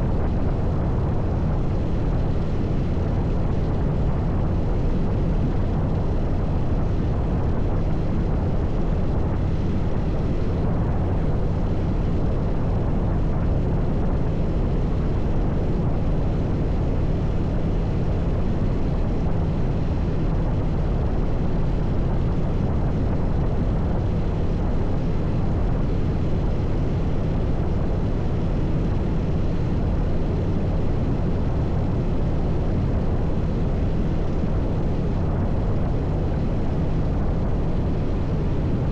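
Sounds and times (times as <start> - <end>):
constant rushing noise: 0.0 - 38.9
low engine drone: 0.0 - 38.9.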